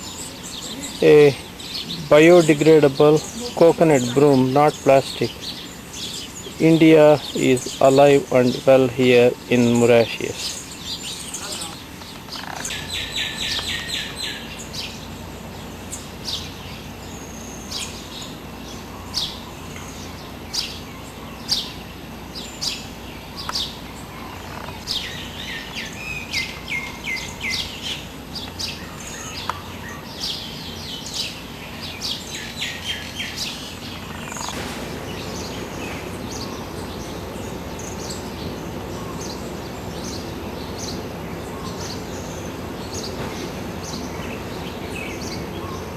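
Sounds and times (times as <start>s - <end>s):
low background noise: 0.0s - 45.9s
songbirds chirping: 0.0s - 45.9s.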